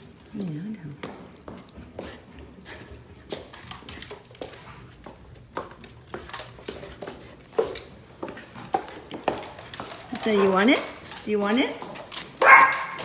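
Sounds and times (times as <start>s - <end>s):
dog claws on wooden floor: 0.0s - 13.0s.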